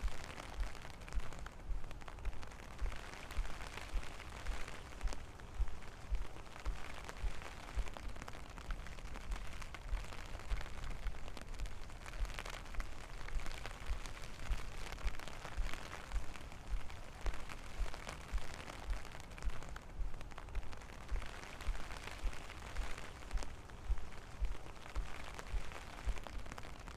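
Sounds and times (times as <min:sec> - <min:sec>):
rain falling: 0:00.0 - 0:26.9.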